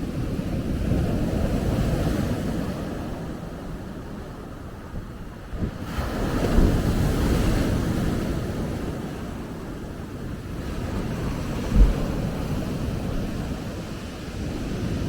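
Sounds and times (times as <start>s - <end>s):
ocean surf on a beach: 0.0s - 15.0s
wind buffeting microphone: 0.0s - 15.0s.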